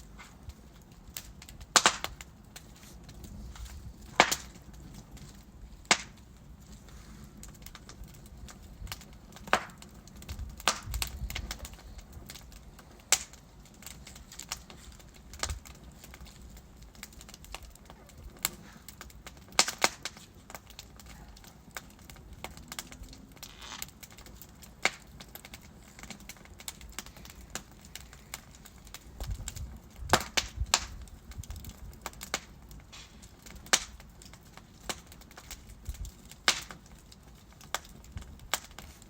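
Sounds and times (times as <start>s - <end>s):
logs crackling and popping: 0.0s - 39.0s
low rumble of flame: 0.0s - 39.0s.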